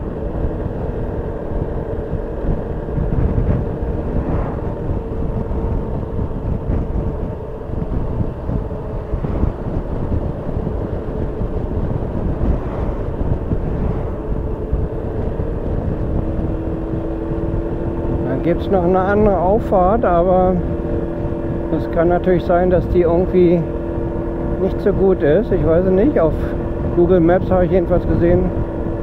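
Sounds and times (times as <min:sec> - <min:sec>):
scooter engine cruising: 0:00.0 - 0:29.0
wind rushing on microphone: 0:00.0 - 0:29.0.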